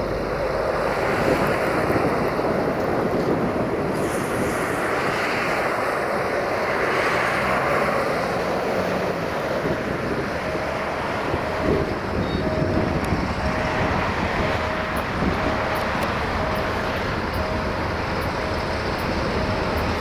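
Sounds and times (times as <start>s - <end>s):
diesel locomotive running: 0.0s - 20.0s
wind noise on microphone: 0.0s - 20.0s.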